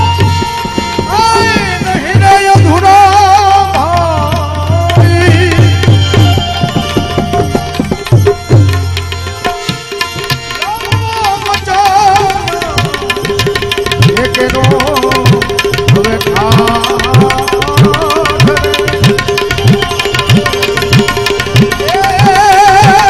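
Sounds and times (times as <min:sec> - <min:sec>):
tabla rhythm: 0:00.0 - 0:23.0.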